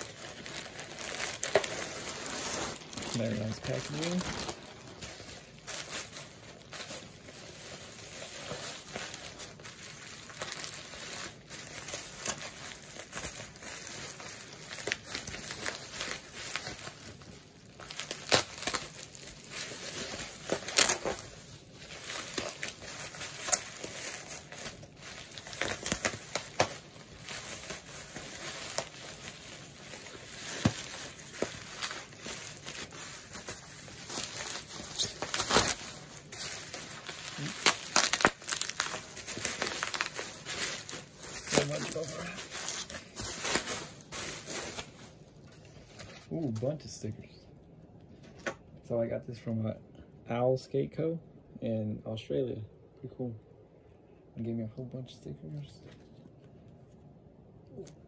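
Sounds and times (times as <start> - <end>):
bubble wrap crinkling: 0.0 - 48.8, 55.8 - 58.0.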